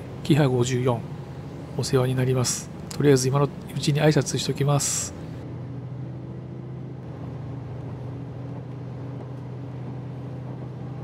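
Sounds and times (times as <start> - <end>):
diesel engine hum: 0.0 - 11.0
train rumbling on rails: 0.0 - 11.0.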